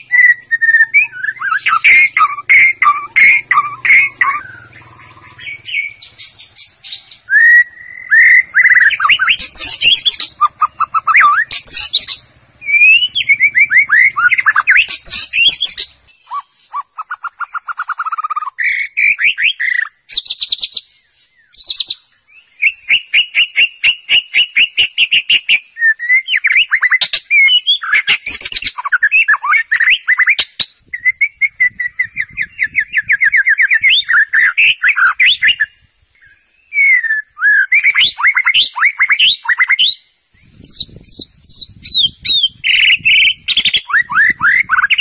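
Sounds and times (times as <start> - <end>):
bird singing whistled trills: 0.0 - 45.0.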